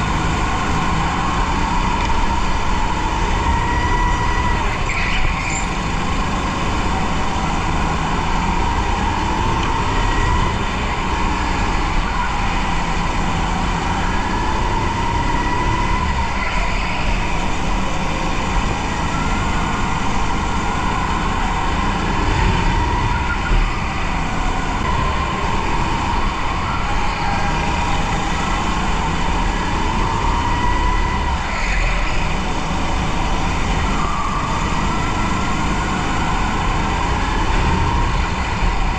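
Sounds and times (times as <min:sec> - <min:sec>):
go-kart engine rumble and whine: 0:00.0 - 0:38.9.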